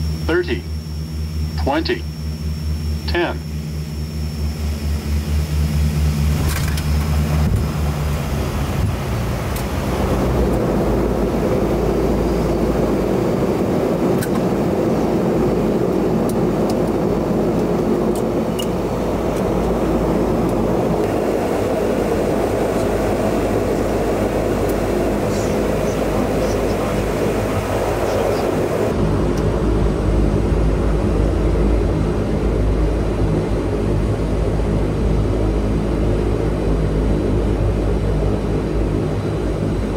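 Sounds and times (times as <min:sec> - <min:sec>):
turboprop engines and propellers: 0:00.0 - 0:39.9.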